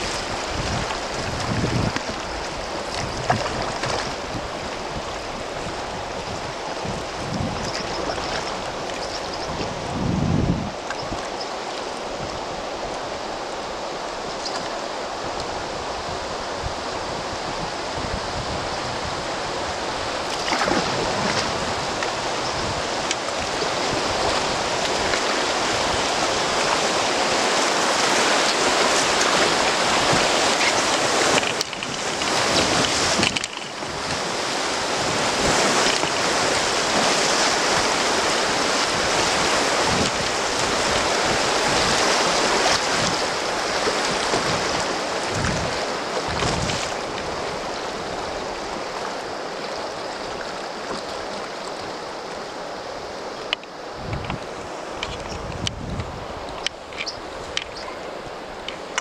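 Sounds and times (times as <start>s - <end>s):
river rapids rushing: 0.0s - 59.0s.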